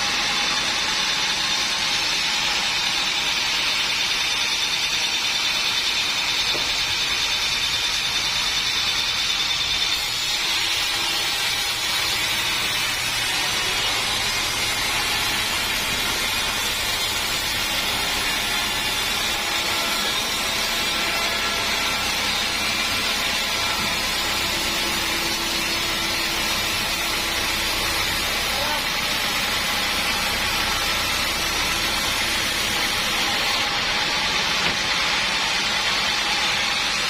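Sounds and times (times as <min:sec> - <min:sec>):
saw cutting through wood: 0:00.0 - 0:37.0.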